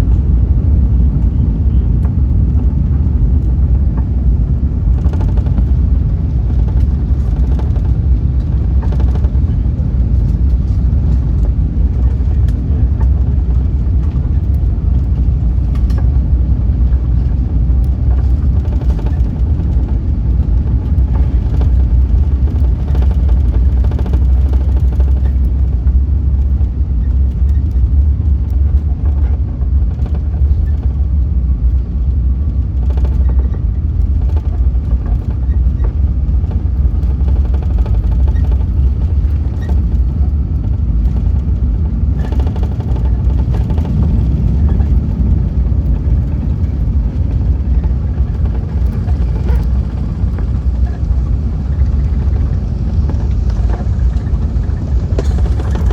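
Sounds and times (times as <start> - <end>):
aircraft cabin rumble: 0.0 - 55.9.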